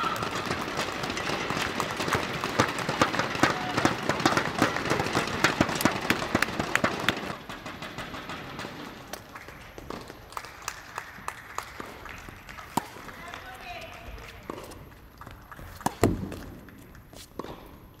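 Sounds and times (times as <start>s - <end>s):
group clapping: 0.0s - 7.4s, 8.6s - 17.1s
tennis ball hitting rackets: 0.0s - 10.2s, 11.6s - 14.9s, 15.6s - 18.0s.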